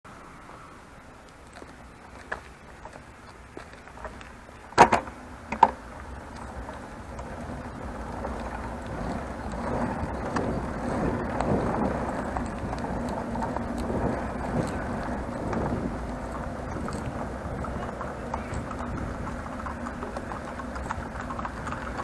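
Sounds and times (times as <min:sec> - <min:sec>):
tyres rumbling on rough ground: 0:00.1 - 0:22.0
bicycle rattling: 0:00.3 - 0:22.0.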